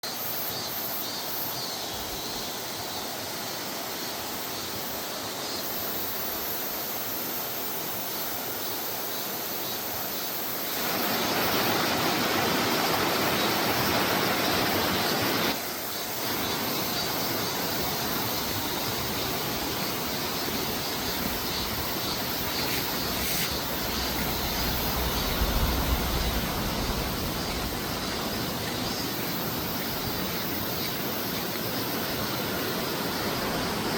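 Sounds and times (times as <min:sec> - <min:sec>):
mountain stream rushing: 0:01.5 - 0:33.9.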